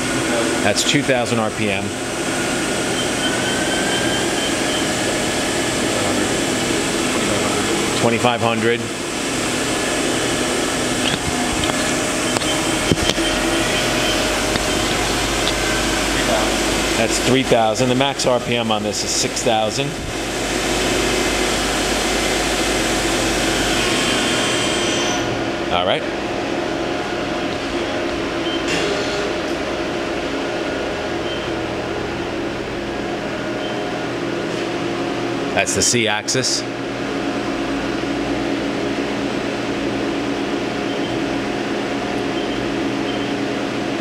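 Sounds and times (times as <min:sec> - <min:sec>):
machine spindle whirring: 0:00.0 - 0:35.5.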